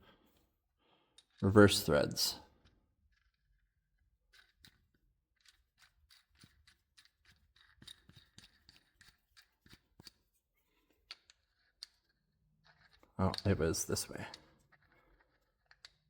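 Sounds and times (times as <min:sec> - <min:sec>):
faint metallic clicks and scrapes: 0:00.1 - 0:16.0.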